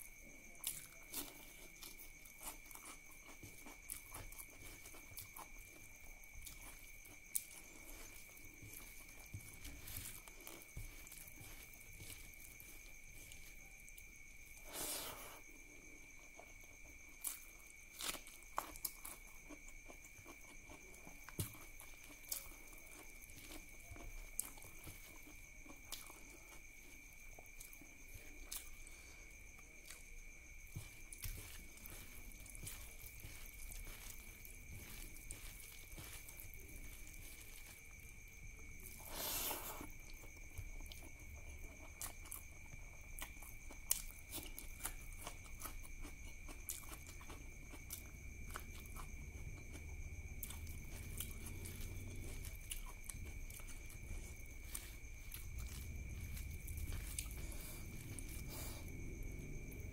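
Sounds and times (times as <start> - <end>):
wet chewing and lip-smacking: 0.6 - 14.0, 16.2 - 59.9.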